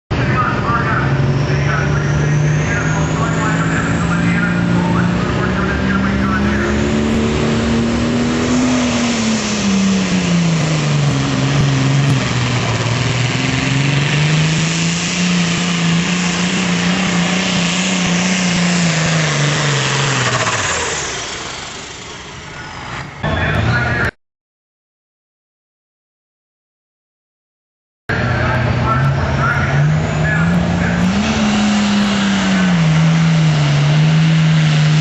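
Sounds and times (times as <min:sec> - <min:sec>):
tractor engine under heavy load: 0:00.1 - 0:24.1, 0:28.1 - 0:35.0.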